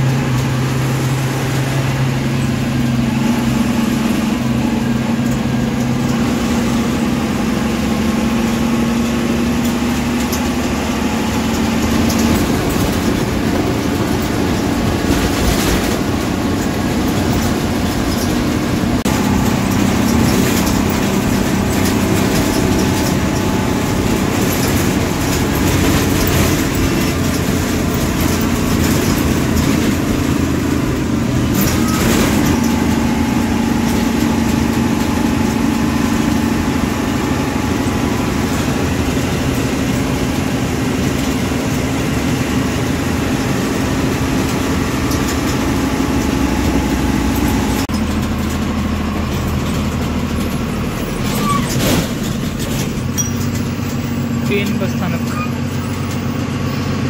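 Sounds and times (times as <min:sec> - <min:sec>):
bus diesel engine drone: 0:00.0 - 0:57.0
road noise: 0:00.0 - 0:57.0.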